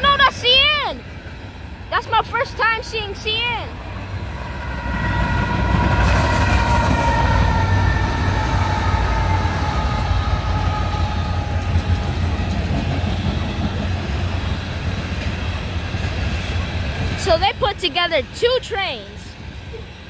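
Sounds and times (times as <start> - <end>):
diesel locomotive engine rumble: 0.0 - 20.0.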